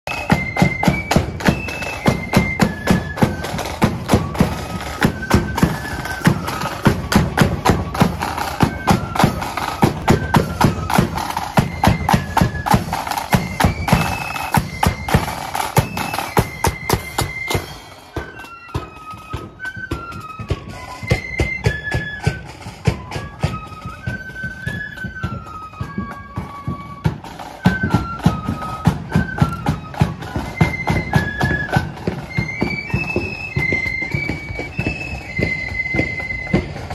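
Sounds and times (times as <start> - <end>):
flutes playing in unison: 0.0 - 36.9
marching drums beating: 0.1 - 36.9.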